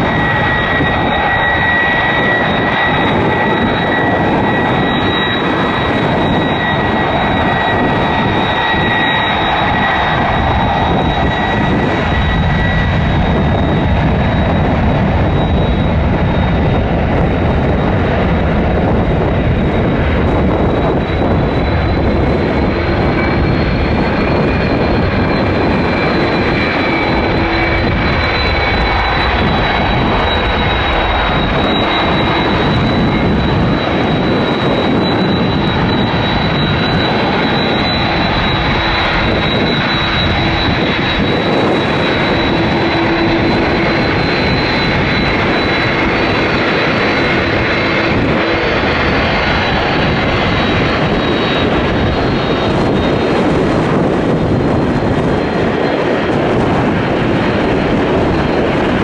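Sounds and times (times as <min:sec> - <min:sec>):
high whine: 0:00.0 - 0:59.0
jet engines running: 0:00.0 - 0:59.0.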